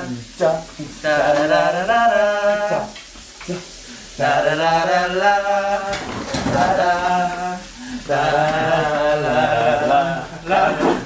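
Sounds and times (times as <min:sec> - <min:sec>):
man singing la la: 0:00.0 - 0:11.0.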